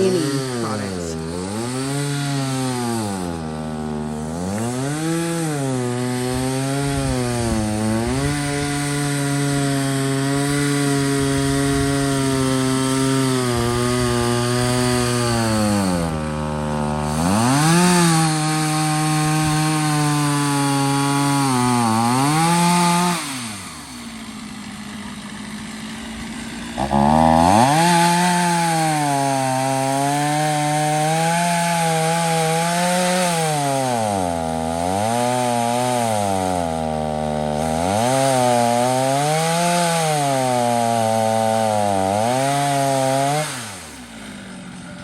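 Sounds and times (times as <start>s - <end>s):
chainsaw cutting log: 0.0s - 45.0s.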